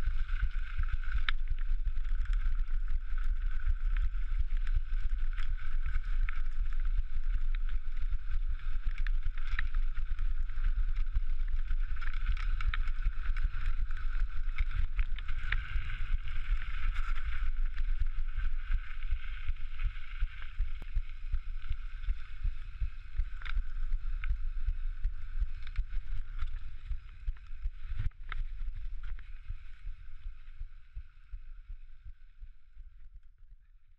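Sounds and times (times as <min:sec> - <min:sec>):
constant hiss: 0:00.0 - 0:32.0.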